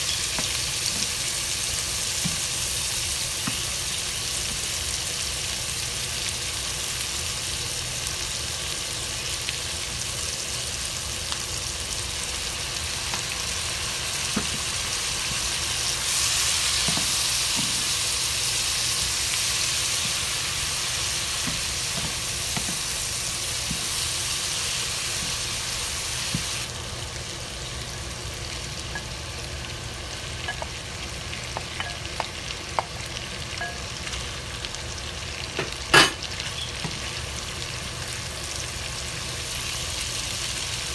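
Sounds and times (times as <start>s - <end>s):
meat and onions sizzling in a pan: 0.0s - 40.9s.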